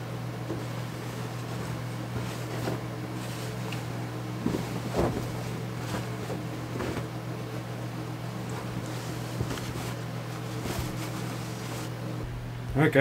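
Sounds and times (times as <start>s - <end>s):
low mechanical hum: 0.0s - 13.0s
cloth sheets rustling and flapping: 0.5s - 12.3s.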